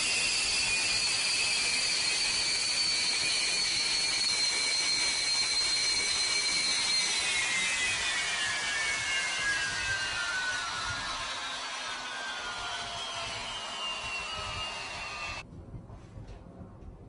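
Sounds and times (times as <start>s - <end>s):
high turbine whine: 0.0s - 15.4s.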